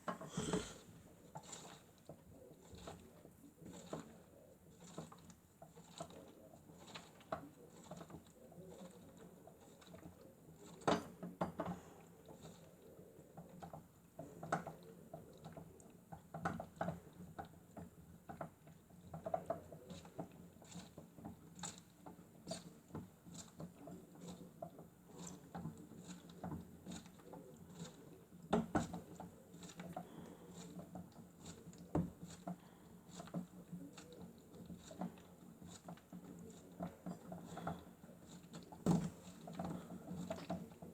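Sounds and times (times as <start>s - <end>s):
light plastic clicks and pattering: 0.0s - 40.9s
toy washing machine motor hum: 0.0s - 40.9s.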